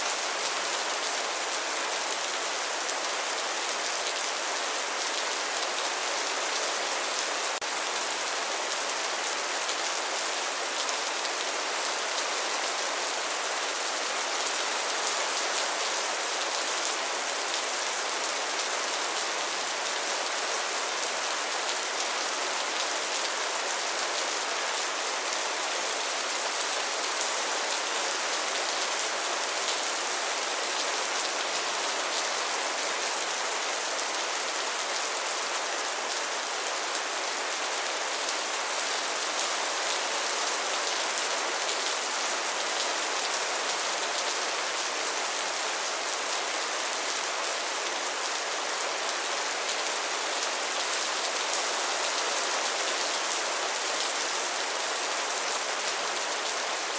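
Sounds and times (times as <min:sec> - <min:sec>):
steady rain on a surface: 0:00.0 - 0:56.9.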